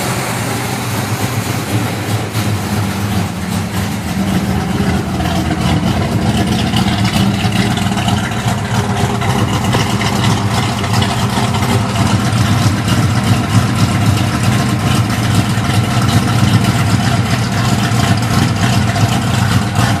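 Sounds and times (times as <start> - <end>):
engine idling with uneven beat: 0.0 - 20.0.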